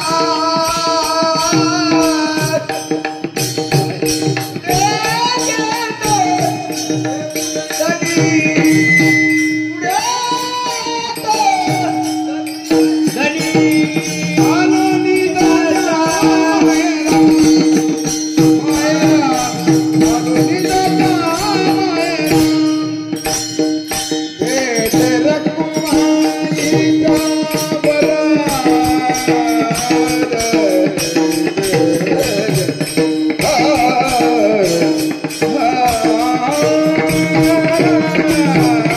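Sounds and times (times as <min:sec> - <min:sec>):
rhythmic percussion: 0:00.0 - 0:38.9
person singing: 0:03.8 - 0:23.4, 0:24.4 - 0:38.9.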